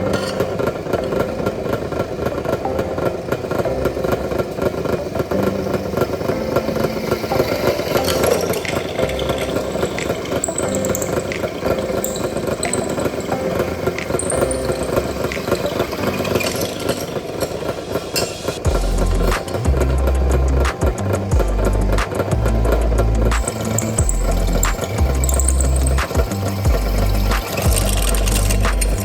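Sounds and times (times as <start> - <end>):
machine motor running: 0.0 - 29.0.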